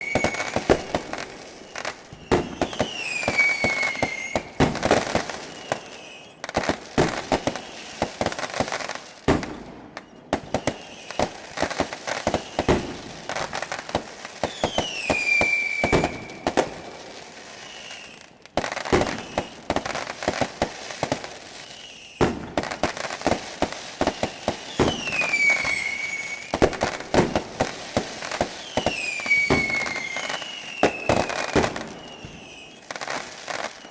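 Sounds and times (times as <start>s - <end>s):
firework whistles falling in pitch: 0.0s - 33.9s
fireworks bangs and crackling: 0.0s - 33.9s.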